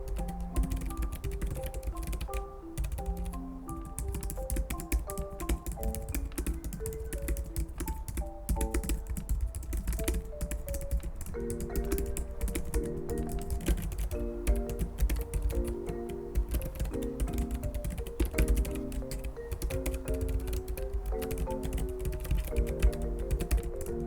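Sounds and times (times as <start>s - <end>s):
background music: 0.0s - 24.0s
keyboard typing clicks: 0.0s - 24.0s.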